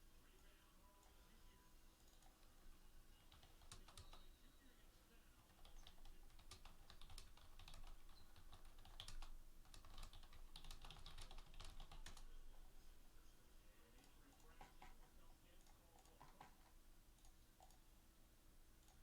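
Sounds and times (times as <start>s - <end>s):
faint keyboard typing: 0.2s - 13.0s, 13.7s - 17.9s, 18.7s - 19.0s.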